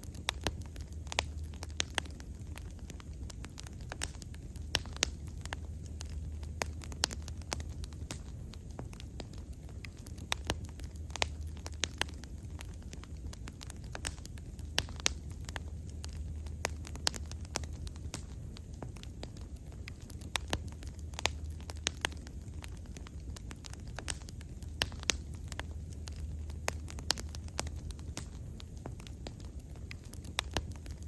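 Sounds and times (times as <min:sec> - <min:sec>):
bonfire crackling and popping: 0:00.0 - 0:31.0.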